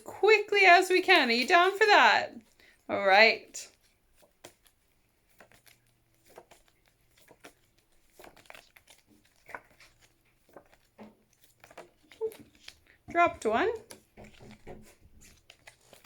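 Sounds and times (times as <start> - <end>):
flashcards rustling and clicking: 0.7 - 2.9, 3.6 - 16.0.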